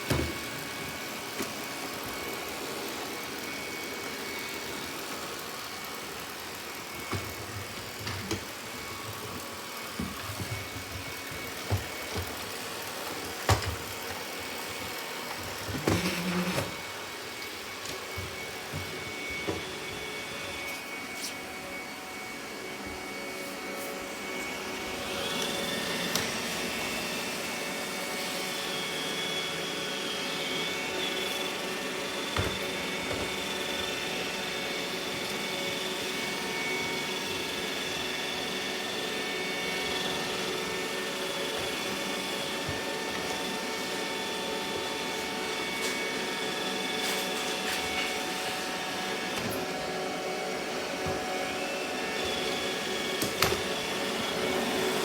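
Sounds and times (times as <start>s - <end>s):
robot vacuum whirring: 0.0s - 55.0s.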